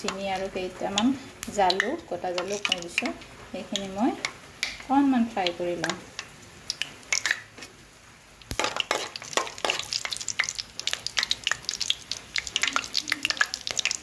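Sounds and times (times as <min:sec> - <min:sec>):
spices crackling in hot oil: 0:00.0 - 0:14.0.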